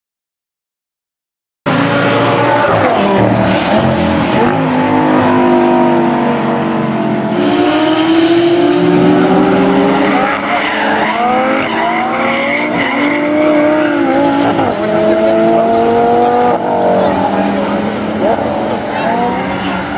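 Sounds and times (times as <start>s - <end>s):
car engine revving hard: 1.7s - 19.9s.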